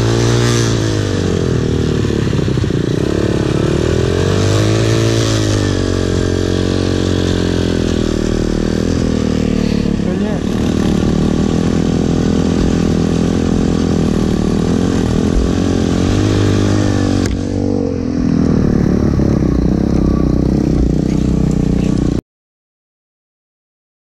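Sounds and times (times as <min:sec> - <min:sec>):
dirt bike engine revving: 0:00.0 - 0:22.2.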